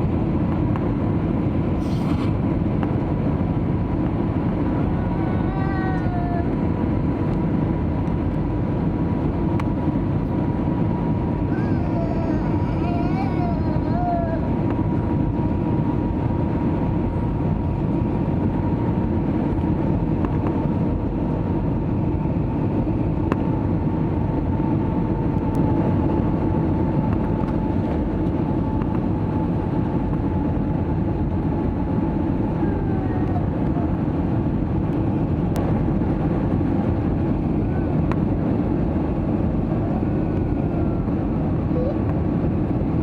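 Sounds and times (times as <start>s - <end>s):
airliner cabin engine rumble: 0.0s - 43.0s.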